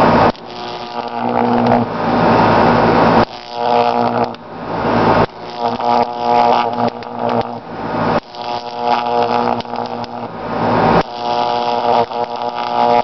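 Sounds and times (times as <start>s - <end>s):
high-voltage arc buzzing: 0.0s - 13.0s.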